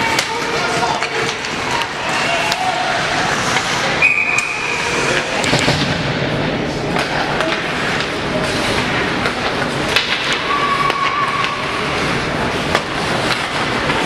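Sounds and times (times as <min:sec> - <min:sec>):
sticks and puck clacking: 0:00.0 - 0:06.0, 0:06.7 - 0:14.0
din of rink spectators: 0:00.0 - 0:14.0
skates scraping ice: 0:00.1 - 0:06.0, 0:06.9 - 0:14.0.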